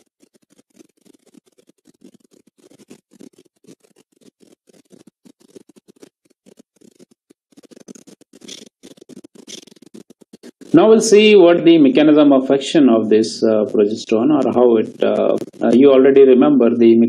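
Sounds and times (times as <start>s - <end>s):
faint crackly background noise: 0.2s - 17.0s.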